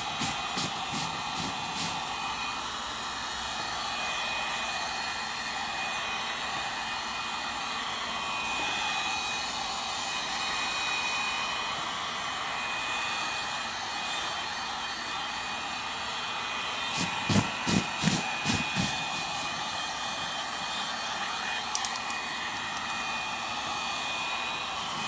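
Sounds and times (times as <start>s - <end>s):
hot-air blower running: 0.0s - 25.0s.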